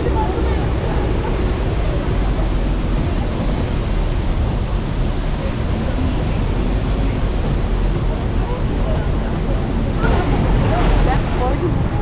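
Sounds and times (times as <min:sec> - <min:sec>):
waterfall roaring: 0:00.0 - 0:12.0
wind rumbling on microphone: 0:00.0 - 0:12.0.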